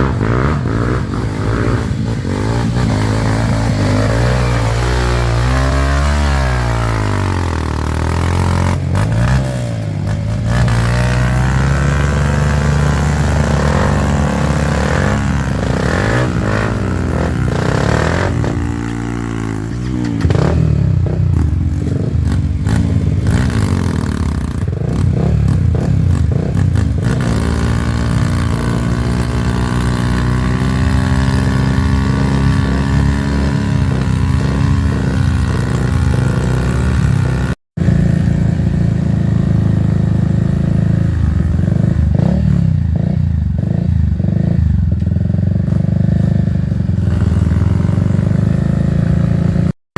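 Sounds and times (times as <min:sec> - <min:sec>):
trail motorcycle engines revving: 0:00.0 - 0:49.8.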